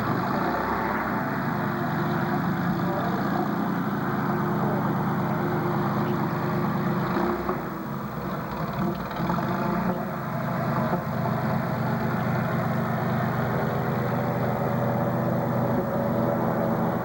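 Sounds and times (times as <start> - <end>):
engine running at low speed: 0.0 - 17.0.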